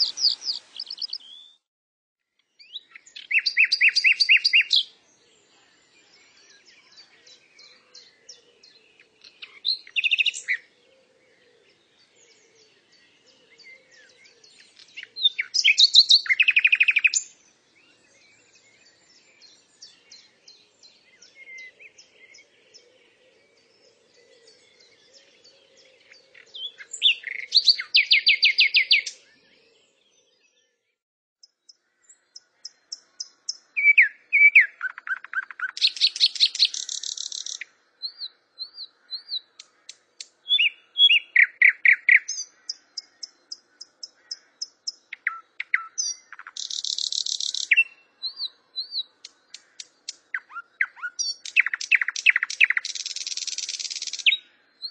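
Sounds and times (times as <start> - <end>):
songbird trilling and chirping: 0.0 - 1.6, 2.4 - 30.8, 31.4 - 54.9.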